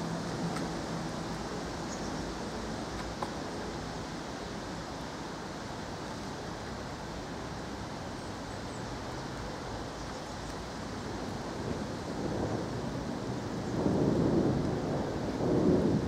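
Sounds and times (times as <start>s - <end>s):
rain: 0.0s - 16.0s
wind: 0.0s - 16.0s.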